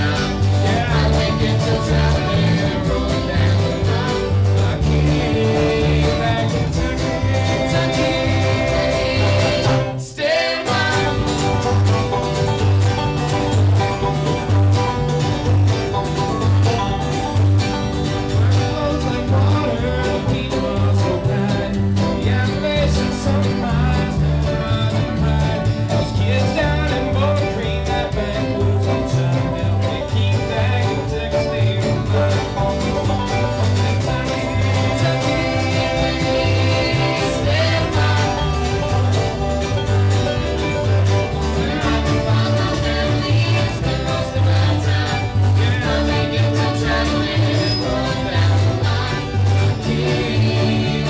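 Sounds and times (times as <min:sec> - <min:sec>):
banjo: 0:00.0 - 0:51.0
bluegrass band playing: 0:00.0 - 0:51.0
pulsing bass line: 0:00.0 - 0:51.0.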